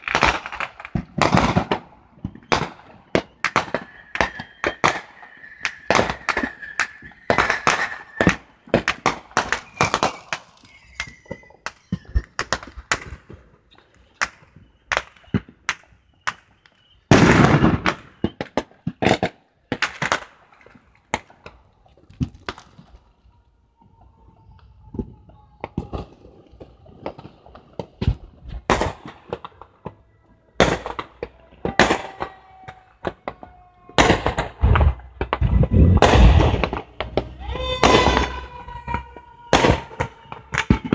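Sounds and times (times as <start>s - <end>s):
fireworks cracking and banging: 0.0s - 40.9s.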